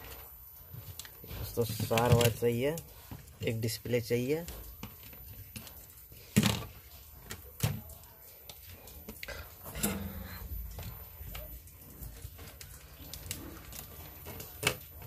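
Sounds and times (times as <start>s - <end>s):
soft rustling of wires: 0.0s - 15.0s.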